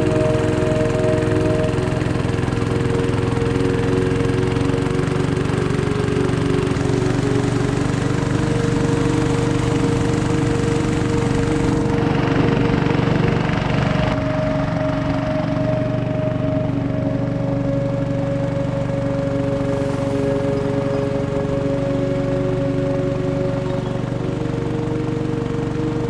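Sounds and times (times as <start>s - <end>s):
small engine running steadily: 0.0s - 26.0s.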